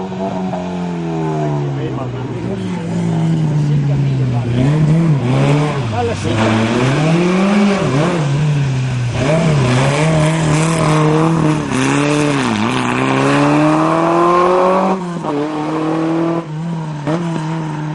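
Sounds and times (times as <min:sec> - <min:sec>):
rally car engine revving: 0:00.0 - 0:17.9.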